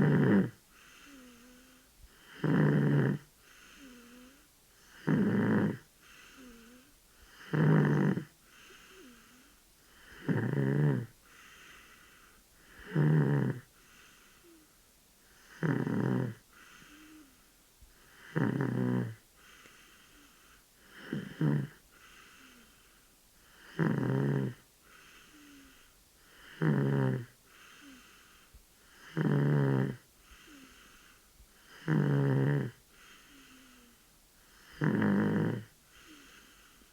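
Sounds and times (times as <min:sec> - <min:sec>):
baby snoring: 0:00.0 - 0:11.8, 0:12.7 - 0:13.7, 0:15.4 - 0:17.4, 0:18.1 - 0:19.2, 0:20.2 - 0:22.8, 0:23.5 - 0:28.2, 0:28.9 - 0:34.0, 0:34.6 - 0:36.7
soft breaths: 0:00.0 - 0:36.9.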